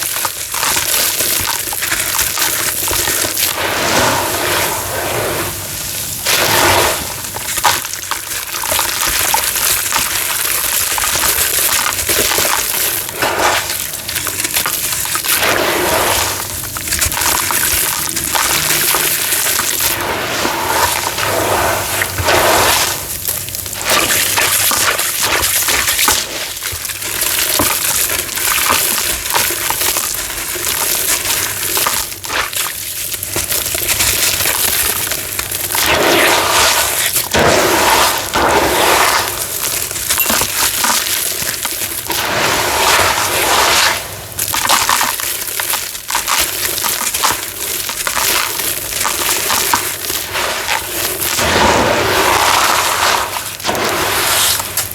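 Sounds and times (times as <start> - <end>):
cement crunching and crackling: 0.0 - 54.9
falling grit: 0.2 - 54.9.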